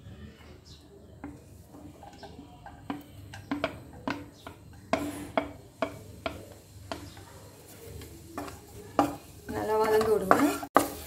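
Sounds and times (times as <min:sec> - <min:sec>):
wooden spatula tapping metal plate: 0:01.2 - 0:07.4, 0:08.0 - 0:11.0.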